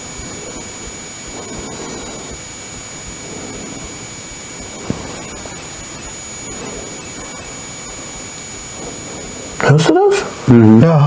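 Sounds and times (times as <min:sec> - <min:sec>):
high-pitched electronic whine: 0:00.0 - 0:11.0
steady hiss: 0:00.0 - 0:11.0.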